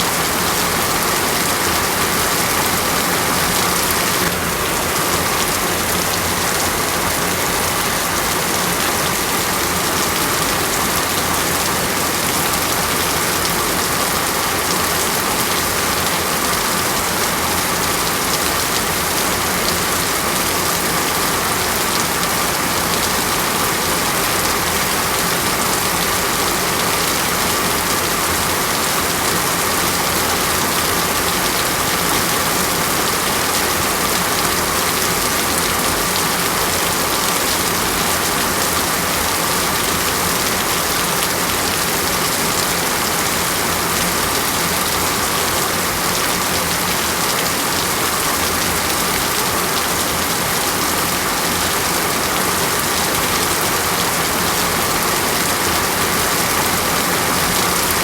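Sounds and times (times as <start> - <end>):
dense rain falling: 0.0 - 58.0.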